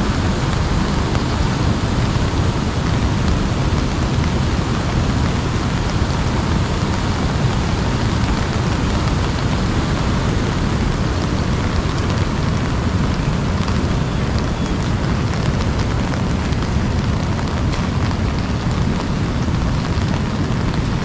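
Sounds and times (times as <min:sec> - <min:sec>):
rain on an umbrella: 0:00.0 - 0:21.0
raindrop ticks: 0:00.1 - 0:21.0.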